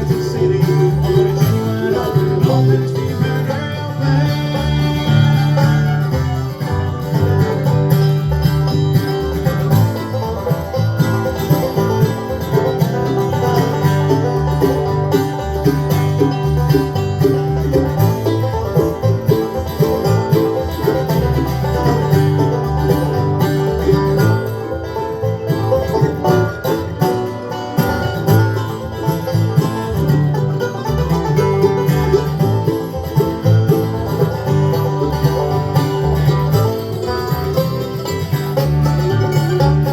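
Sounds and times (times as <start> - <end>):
acoustic guitar: 0.0 - 39.9
banjo picking: 0.0 - 39.9
bluegrass band playing: 0.0 - 39.9.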